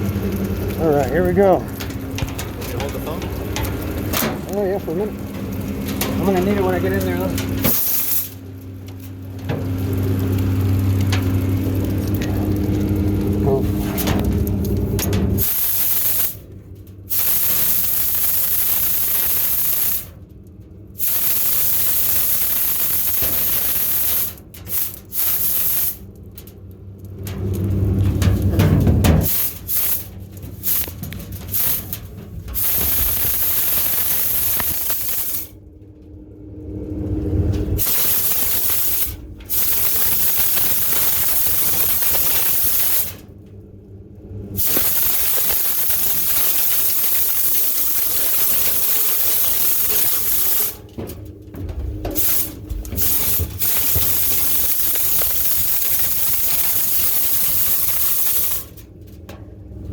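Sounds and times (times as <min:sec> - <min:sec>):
air rushing through duct: 0:00.0 - 0:59.0.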